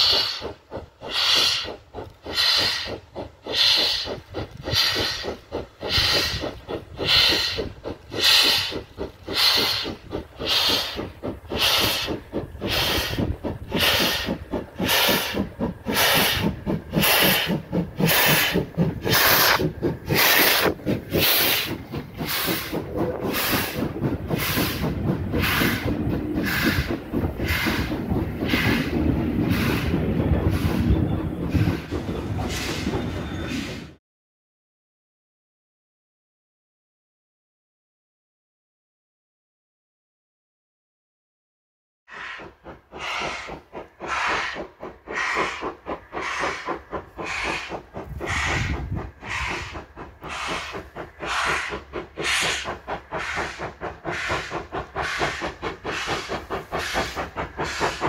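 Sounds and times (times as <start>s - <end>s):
coach wheels rumbling on rails: 0.0s - 34.0s, 42.1s - 58.0s
steam locomotive chuffing: 0.0s - 34.0s, 42.1s - 58.0s.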